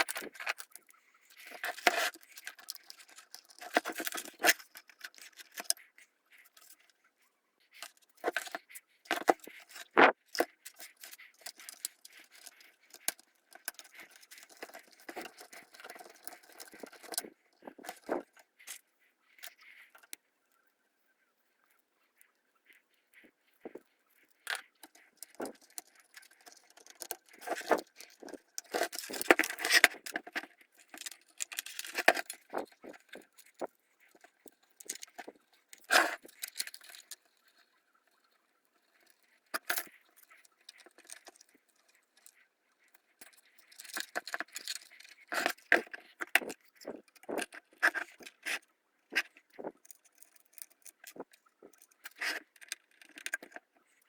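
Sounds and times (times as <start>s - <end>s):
small hard parts clicking: 0.0s - 7.0s, 7.8s - 18.8s, 22.7s - 54.0s.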